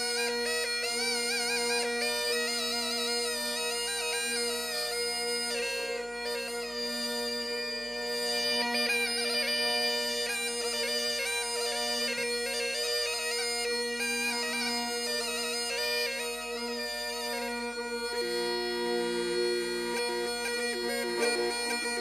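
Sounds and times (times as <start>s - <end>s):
reed pipe folk melody: 0.0s - 22.0s.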